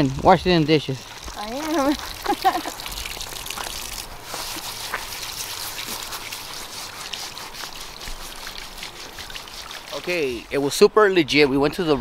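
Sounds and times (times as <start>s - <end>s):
dishes washed by hand: 0.0s - 10.5s
water trickling and splashing: 0.0s - 10.9s.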